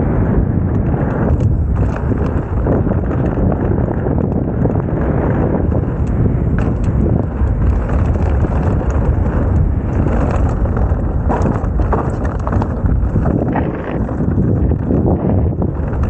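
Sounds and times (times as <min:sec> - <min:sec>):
bike rattling clicks and clatters: 0:00.0 - 0:16.0
bike tyre noise: 0:00.0 - 0:16.0
wind on microphone: 0:00.0 - 0:16.0.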